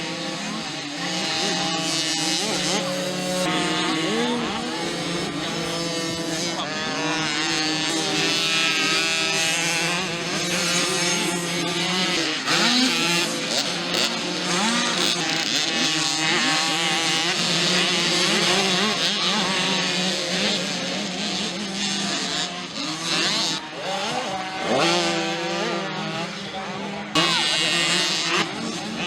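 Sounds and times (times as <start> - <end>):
mini motocross bikes revving: 0.0 - 29.0.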